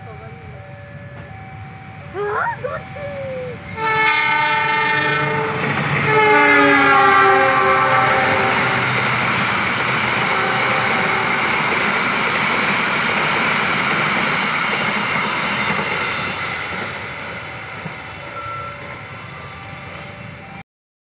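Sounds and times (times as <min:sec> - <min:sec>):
passenger train rolling past: 0:00.0 - 0:20.6.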